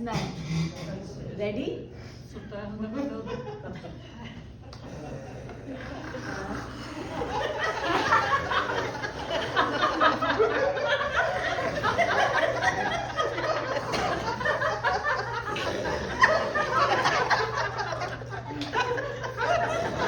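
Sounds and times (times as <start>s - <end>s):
women laughing together: 2.8s - 20.0s
low hum: 3.9s - 20.0s.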